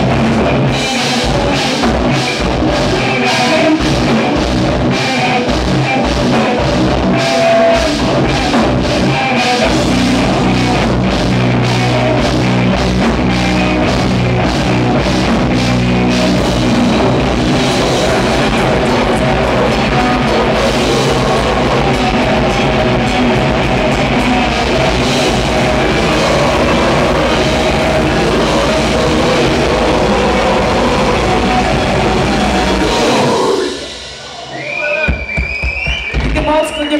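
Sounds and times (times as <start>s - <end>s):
rapid drum strikes: 0.0s - 34.3s
metal band playing: 0.0s - 35.0s.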